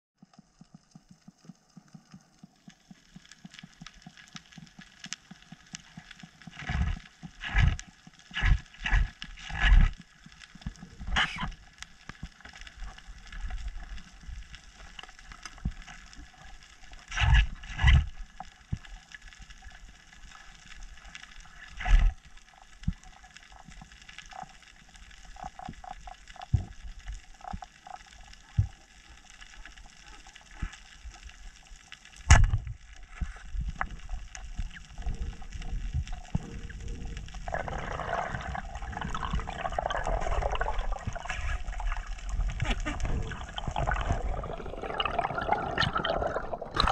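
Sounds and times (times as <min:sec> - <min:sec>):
faint steady hiss: 0:00.2 - 0:45.3.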